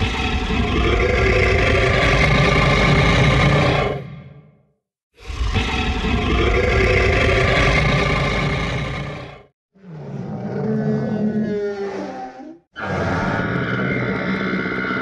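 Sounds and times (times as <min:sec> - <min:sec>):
growling dinosaur roar: 0:00.0 - 0:04.6, 0:05.2 - 0:15.0.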